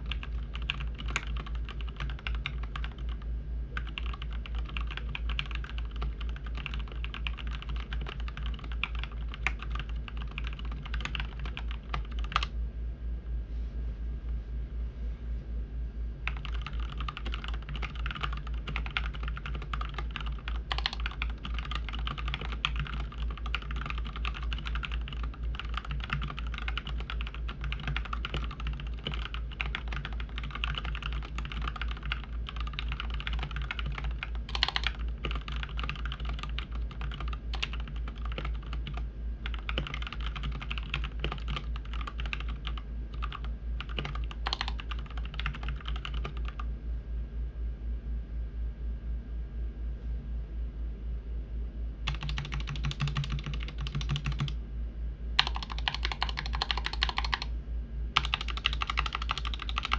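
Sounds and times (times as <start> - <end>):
mechanical keyboard typing: 0.0 - 3.2, 3.8 - 12.5, 16.3 - 46.7, 52.1 - 54.6, 55.4 - 57.5, 58.2 - 59.9.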